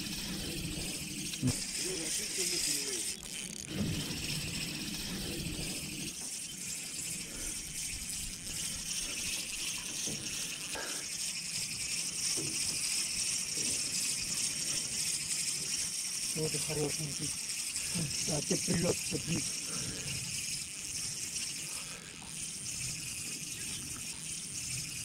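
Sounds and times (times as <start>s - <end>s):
high-pitched outdoor hiss: 3.8s - 25.0s.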